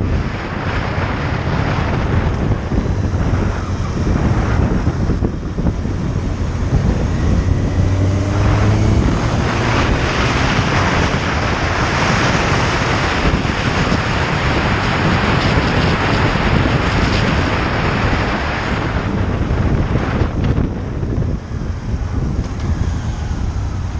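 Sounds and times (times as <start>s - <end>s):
motorcycle engine: 0.0s - 23.9s
wind rushing over microphone: 0.0s - 23.9s.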